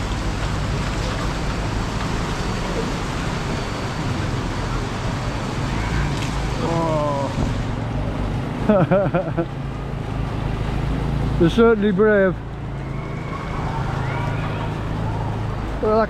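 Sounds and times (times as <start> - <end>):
rushing water: 0.0 - 16.0
vehicle engines rumbling: 0.0 - 16.0.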